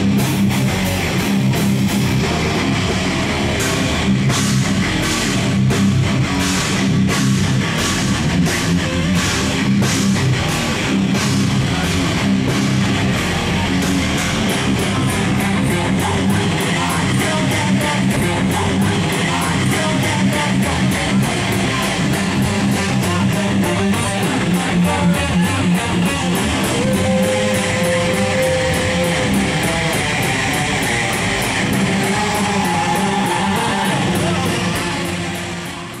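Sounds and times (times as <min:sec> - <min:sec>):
heavy drumming: 0:00.0 - 0:36.0
heavy metal band playing live: 0:00.0 - 0:36.0.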